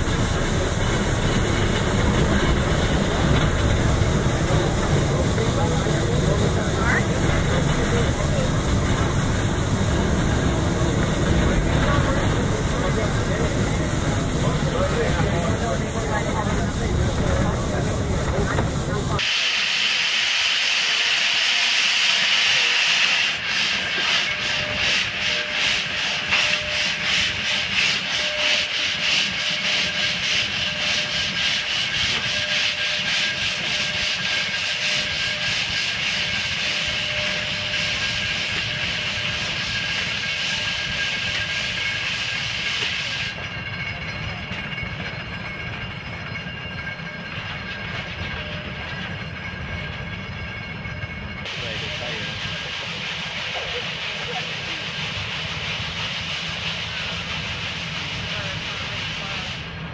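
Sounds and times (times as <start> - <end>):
steam hissing: 0.0 - 46.1, 51.3 - 59.9
steam locomotive chuffing: 0.0 - 59.9.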